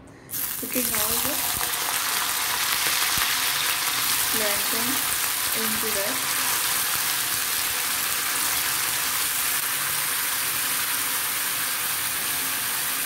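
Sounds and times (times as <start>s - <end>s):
frying sizzling hiss: 0.3s - 13.0s.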